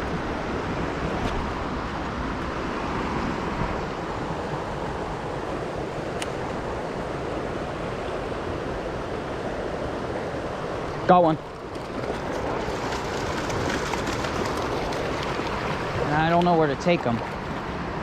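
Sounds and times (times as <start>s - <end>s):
creek water over rocks: 0.1s - 18.0s.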